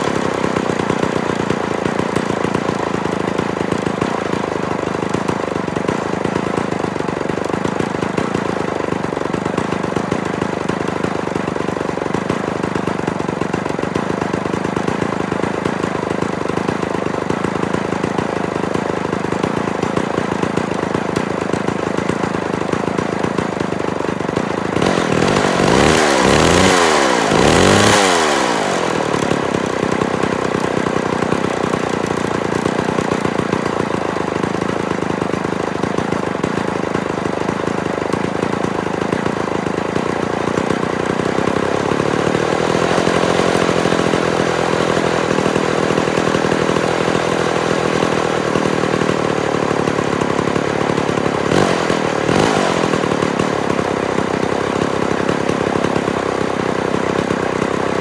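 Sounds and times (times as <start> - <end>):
chainsaw engine idling and revving: 0.0 - 58.0.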